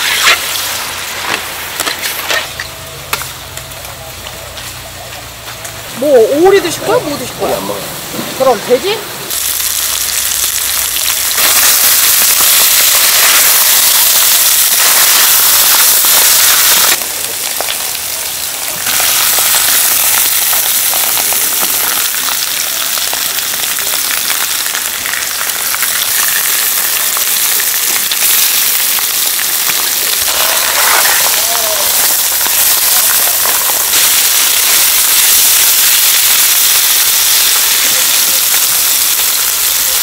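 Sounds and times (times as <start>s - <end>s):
pig intestines sizzling on a griddle: 0.0s - 40.0s.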